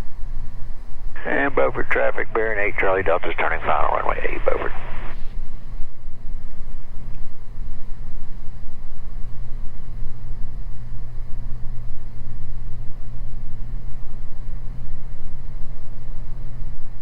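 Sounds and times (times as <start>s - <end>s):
propeller engines droning: 0.0s - 17.0s.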